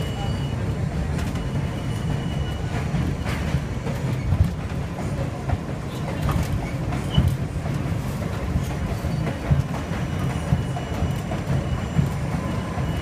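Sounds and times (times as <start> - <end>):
subway car rumble: 0.0 - 13.0
wheels clacking over rail joints: 0.0 - 13.0.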